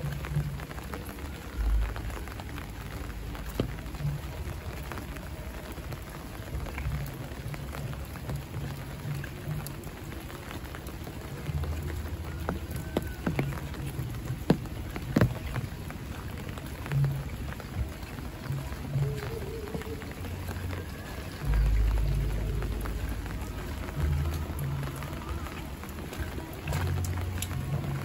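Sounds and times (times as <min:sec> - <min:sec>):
rain falling steadily: 0:00.0 - 0:28.0
sharp clicks of raindrops: 0:00.0 - 0:28.0.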